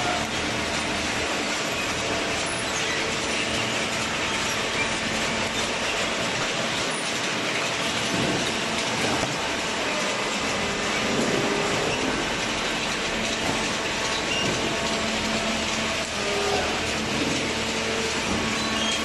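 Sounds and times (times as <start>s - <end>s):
industrial baler clatter and hum: 0.0s - 19.0s.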